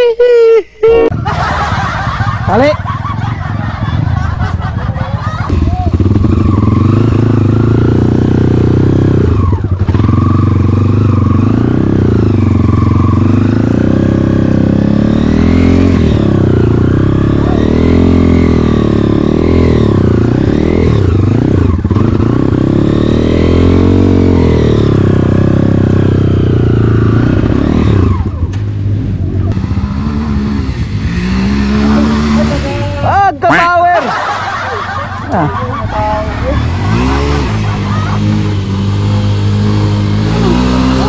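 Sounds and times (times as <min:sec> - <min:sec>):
dirt bike engine revving: 0:01.1 - 0:41.0.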